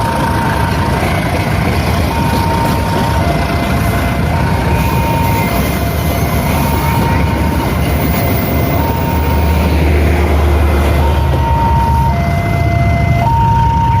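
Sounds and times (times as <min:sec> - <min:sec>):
train rumbling past: 0:00.0 - 0:14.0
two-tone crossing alarm: 0:00.0 - 0:14.0.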